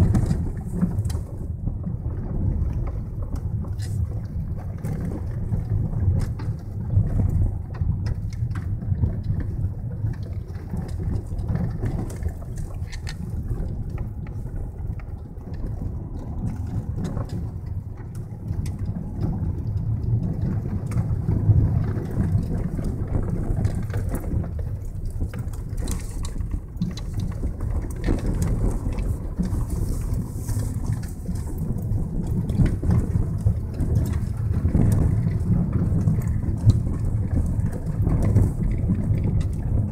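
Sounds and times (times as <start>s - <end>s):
car engine and tyre rumble: 0.0s - 39.9s
gravel clicking under wheels: 0.0s - 39.9s.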